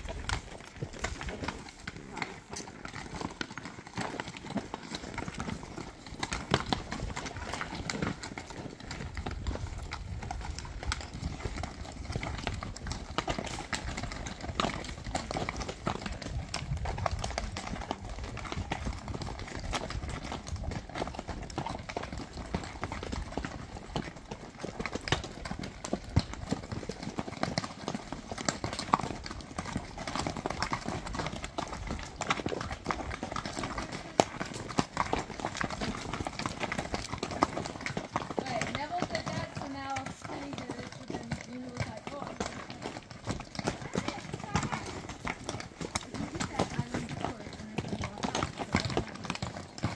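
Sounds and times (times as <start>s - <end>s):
horse hooves clopping on stony trail: 0.0s - 49.9s.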